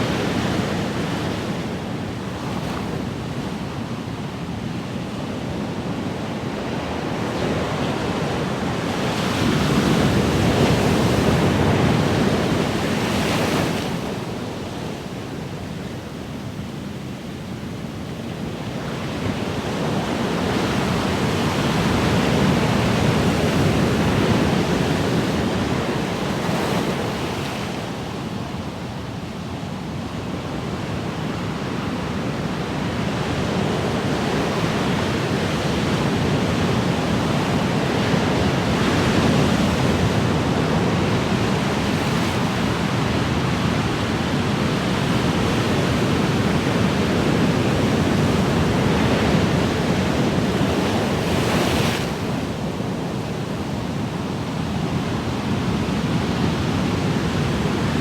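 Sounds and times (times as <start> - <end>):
ocean waves surf: 5.5 - 16.6, 18.4 - 58.0.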